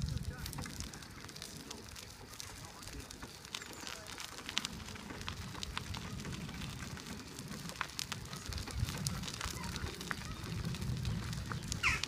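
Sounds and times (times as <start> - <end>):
wheelchair low rumble: 0.0 - 12.0
wheelchair tyres crunching grit: 0.0 - 12.0.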